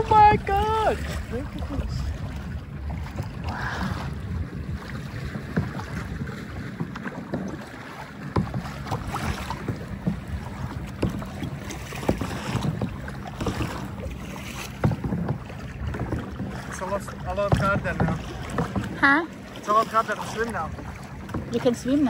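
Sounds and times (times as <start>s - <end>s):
wind buffeting microphone: 0.0s - 19.5s
water splashing and knocking: 0.0s - 22.0s.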